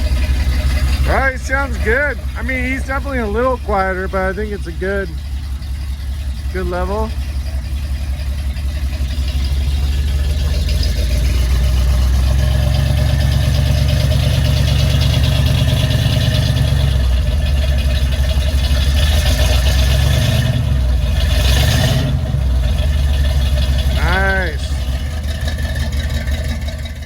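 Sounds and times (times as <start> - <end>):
truck engine exhaust note: 0.0 - 27.0.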